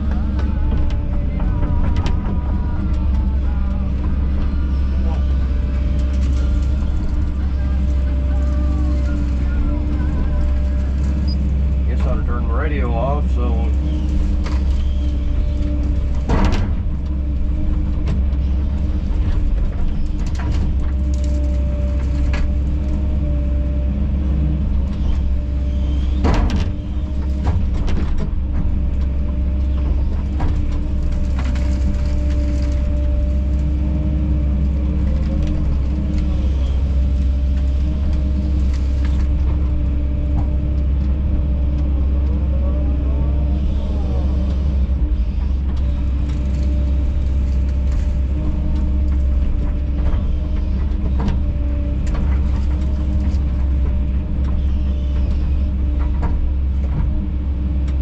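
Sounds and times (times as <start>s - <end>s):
excavator diesel drone: 0.0s - 58.0s.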